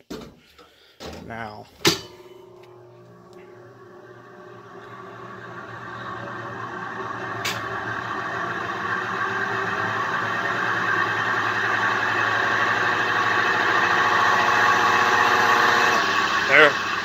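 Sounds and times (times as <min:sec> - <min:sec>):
washing machine spinning: 0:01.1 - 0:17.0.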